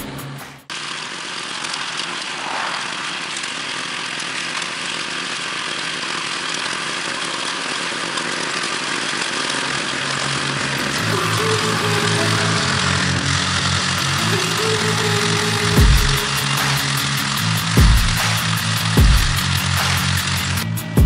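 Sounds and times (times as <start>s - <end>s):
tiller engine running under load: 0.0s - 21.0s
tines churning soil: 0.7s - 20.6s.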